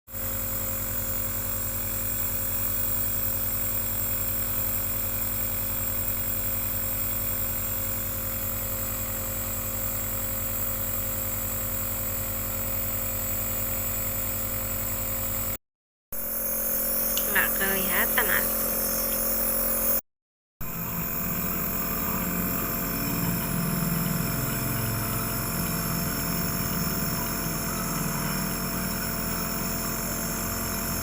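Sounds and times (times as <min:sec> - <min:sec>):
nebulizer motor buzz: 0:00.1 - 0:15.6, 0:16.2 - 0:20.0, 0:20.6 - 0:31.0.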